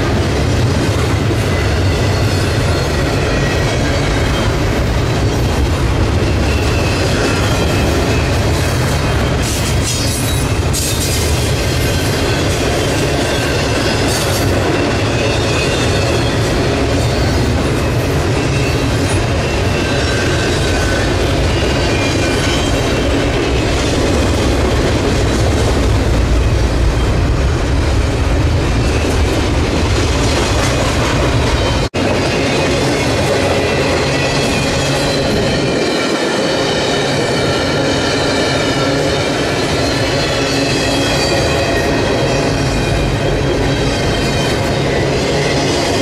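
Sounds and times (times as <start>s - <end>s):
train wheels rumbling and clattering: 0.0s - 46.0s.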